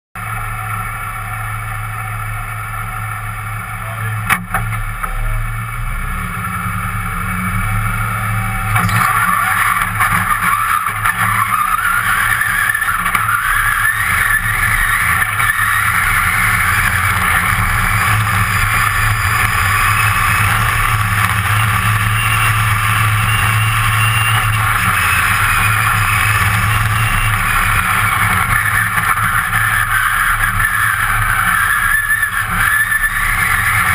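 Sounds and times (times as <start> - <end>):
off-road car engine revving: 0.2 - 33.9.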